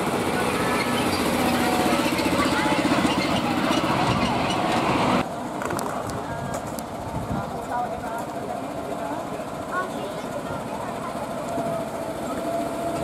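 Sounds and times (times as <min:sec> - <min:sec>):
train engine pulsing drone: 0:00.0 - 0:13.0.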